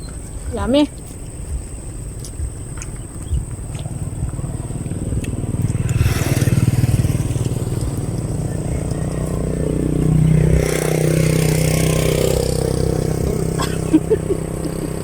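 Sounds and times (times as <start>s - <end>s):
vehicles passing on road: 0.0s - 15.0s.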